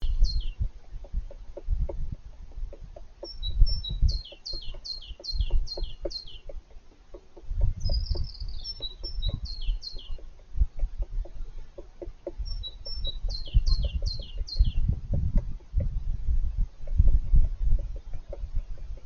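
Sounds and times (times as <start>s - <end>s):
songbird singing falling notes: 0.0s - 2.1s, 2.7s - 16.2s
woodpecker knocking inside tree: 0.0s - 19.0s.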